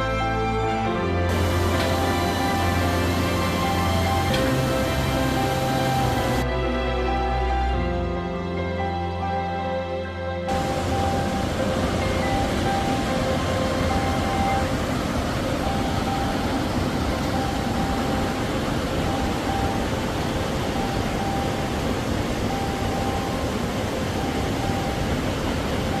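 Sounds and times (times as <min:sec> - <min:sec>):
stream and waterfall rushing: 0:00.6 - 0:07.9, 0:10.5 - 0:26.0.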